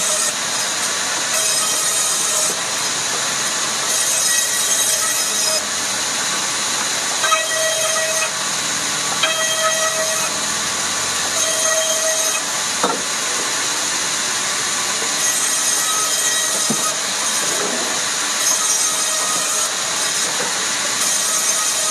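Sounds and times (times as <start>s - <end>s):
woodworking machinery hissing: 0.0s - 21.9s.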